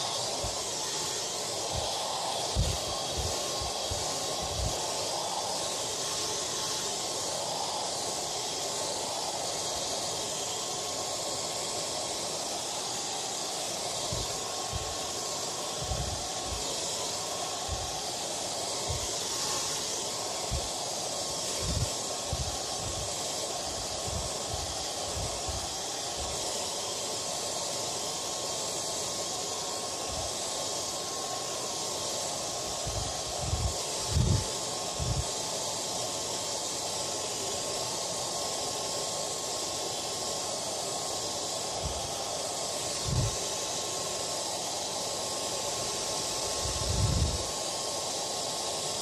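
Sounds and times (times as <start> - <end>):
hair dryer blowing: 0.0 - 49.0.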